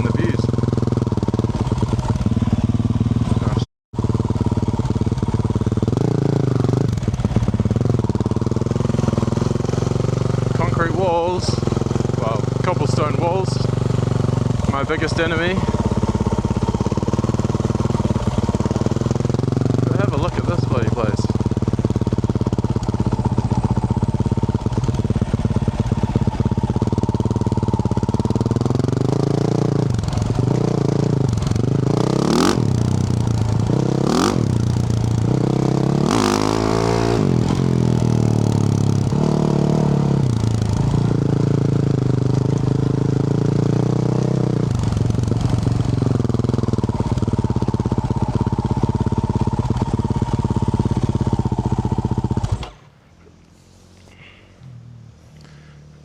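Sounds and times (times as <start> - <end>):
motorbike engine running: 0.0 - 53.0
exhaust crackles: 0.0 - 56.0.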